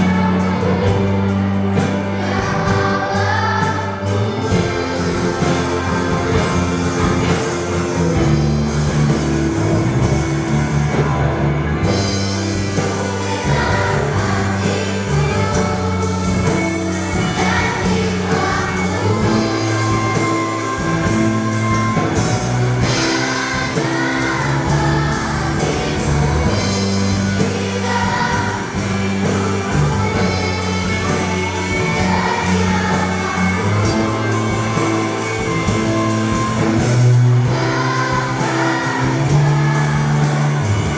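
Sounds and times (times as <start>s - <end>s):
choir singing a hymn: 0.0s - 40.9s
instrumental accompaniment: 0.0s - 40.9s.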